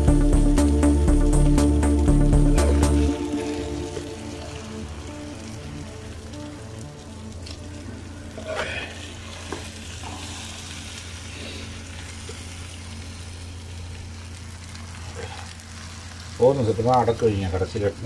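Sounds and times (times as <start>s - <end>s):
noodles sizzling in frying pan: 0.0s - 18.0s
steady low hum: 0.0s - 18.0s.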